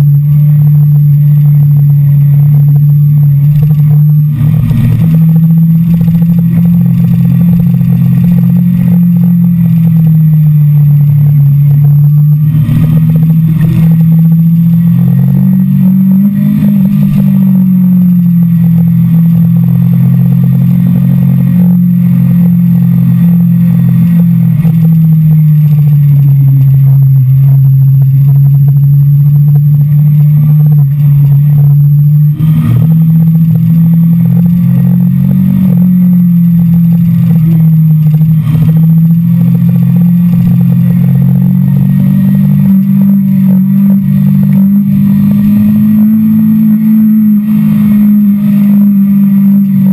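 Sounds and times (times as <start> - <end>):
motorcycle engine at speed: 0.0 - 49.9.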